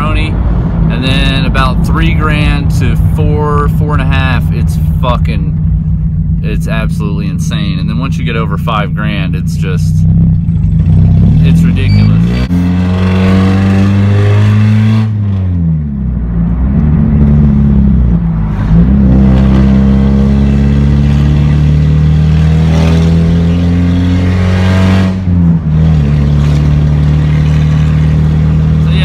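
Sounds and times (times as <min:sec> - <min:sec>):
loud car engine revving: 0:00.0 - 0:29.0.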